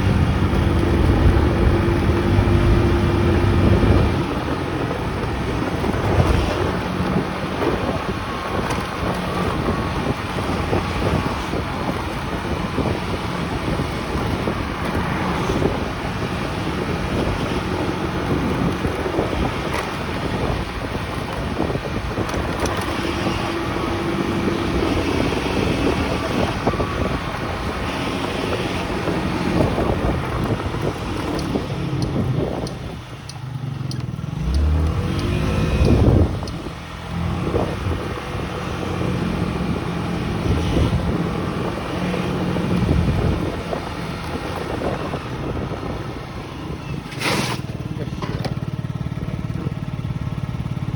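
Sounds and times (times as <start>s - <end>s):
motorcycle engine: 0.0s - 50.9s
wind buffeting microphone: 0.0s - 50.9s.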